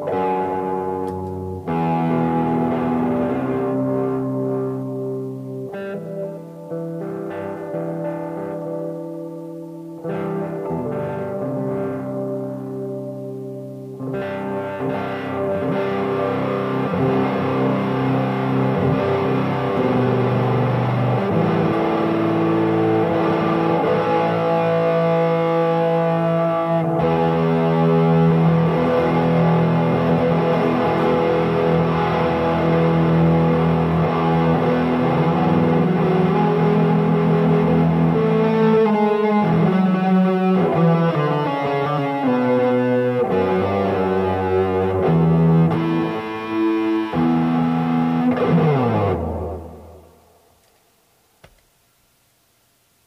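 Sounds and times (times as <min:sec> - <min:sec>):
electric guitar notes and chords: 0:00.0 - 0:50.5.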